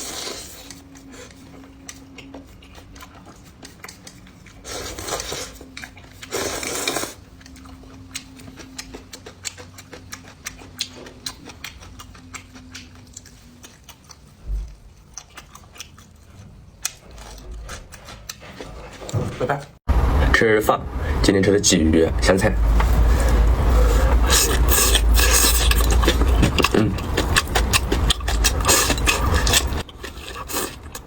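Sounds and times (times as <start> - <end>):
chewing: 0.0 - 19.8, 22.8 - 31.0.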